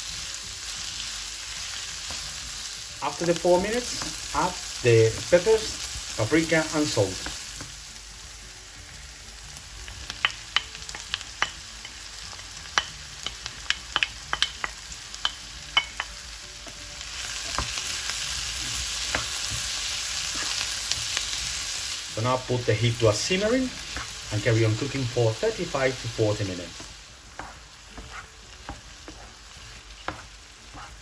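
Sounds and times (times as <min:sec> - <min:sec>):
vegetables frying in oil: 0:00.0 - 0:31.0.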